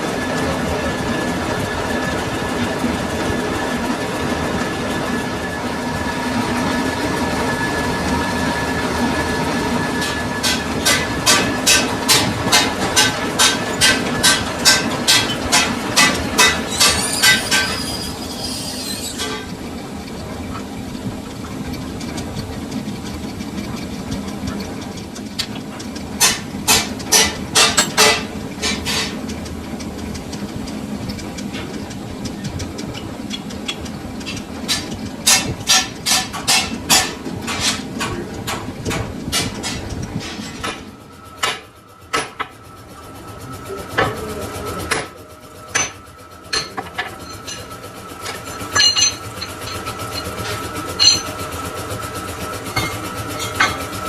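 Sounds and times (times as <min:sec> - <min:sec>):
high machine whine: 0:00.0 - 0:54.0
hum of shop machinery: 0:00.0 - 0:54.0.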